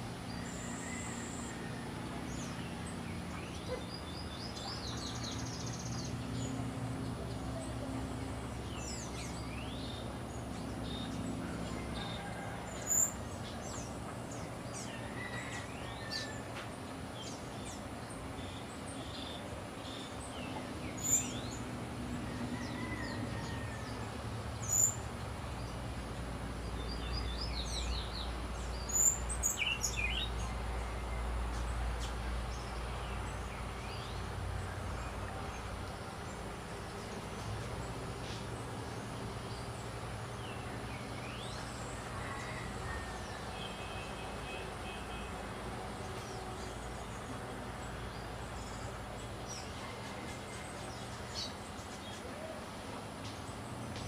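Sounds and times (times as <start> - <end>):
background hiss and rumble: 0.0 - 54.0.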